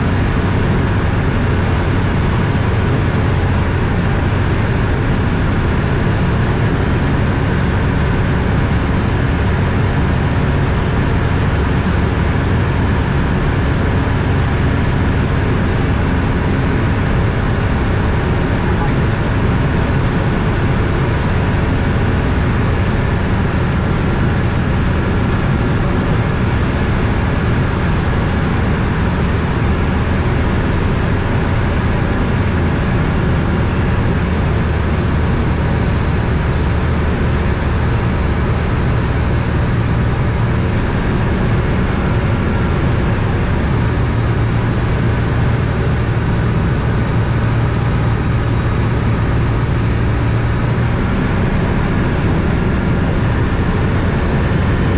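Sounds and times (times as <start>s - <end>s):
aircraft engine drone: 0.0s - 54.9s.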